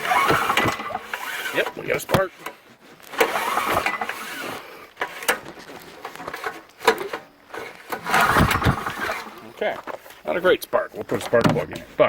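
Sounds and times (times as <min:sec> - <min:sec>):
recoil starter rope pull: 0:00.0 - 0:10.4.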